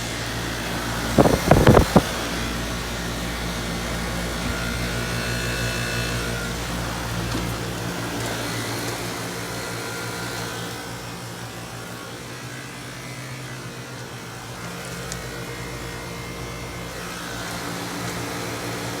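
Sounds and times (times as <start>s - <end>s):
compressor low electrical hum: 0.0s - 19.0s
condenser fan rushing: 0.0s - 19.0s.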